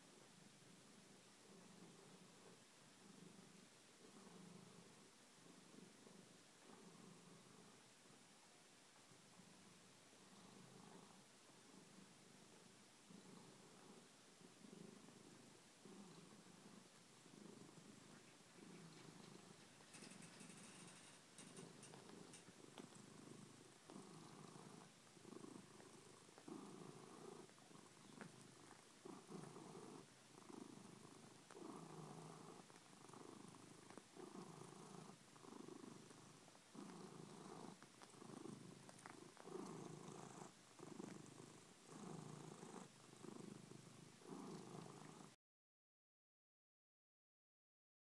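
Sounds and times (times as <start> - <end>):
cat purring: 0.0 - 45.4.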